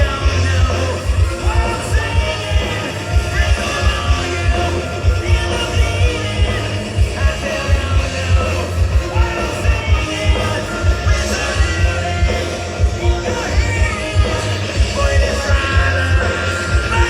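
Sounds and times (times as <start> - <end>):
live rock band playing: 0.0 - 17.0
man singing lead vocals: 0.0 - 17.0.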